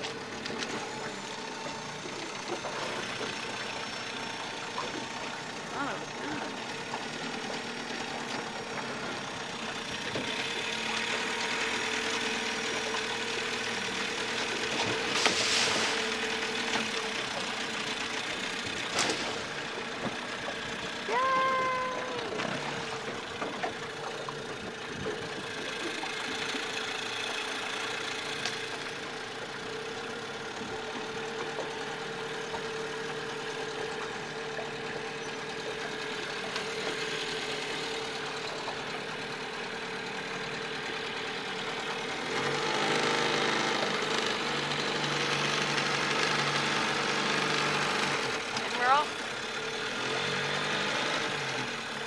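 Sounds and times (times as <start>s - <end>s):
truck engine humming: 0.0s - 52.0s.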